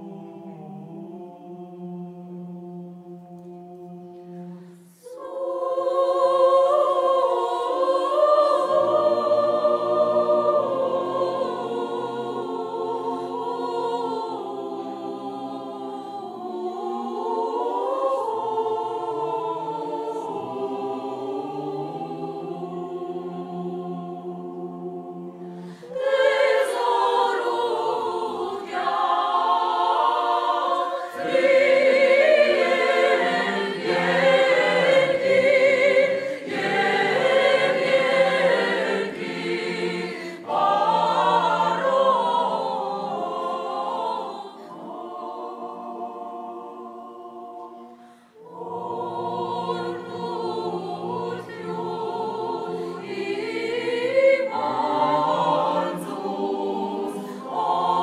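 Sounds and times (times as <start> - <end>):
mixed choir singing a cappella: 0.0 - 58.0.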